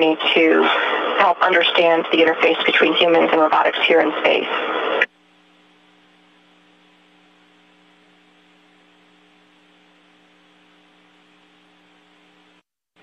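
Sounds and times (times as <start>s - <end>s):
faint radio hiss: 0.0s - 12.6s
low electrical hum: 0.0s - 12.6s.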